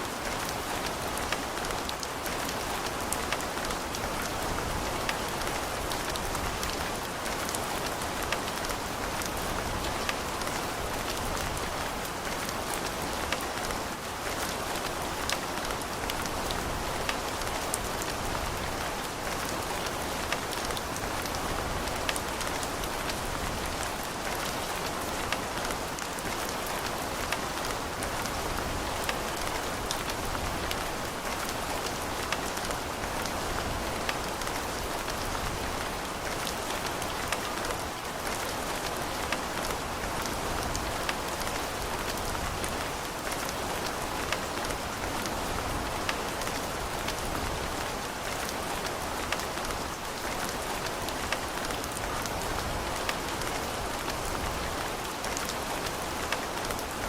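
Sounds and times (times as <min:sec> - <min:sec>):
steady rain on hard surfaces: 0:00.0 - 0:57.0.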